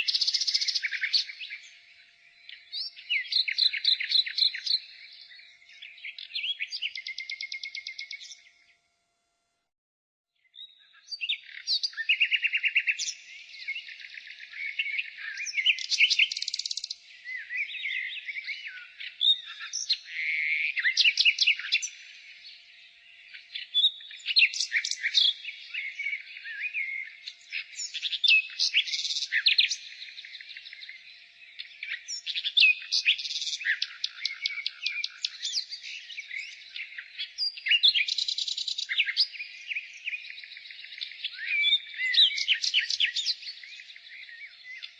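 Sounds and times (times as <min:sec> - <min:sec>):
nightingale singing: 0:00.0 - 0:08.7, 0:10.4 - 0:44.9.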